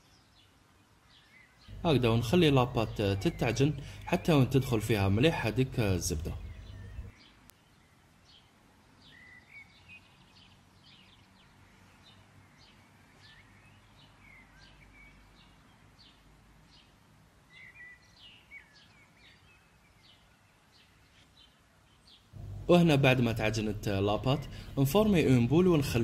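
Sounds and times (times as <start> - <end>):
faint small birds chirping: 0.0 - 26.0.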